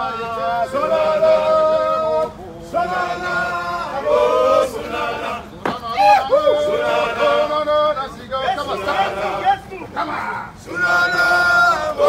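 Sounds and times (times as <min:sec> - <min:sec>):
men chanting together: 0:00.0 - 0:12.0.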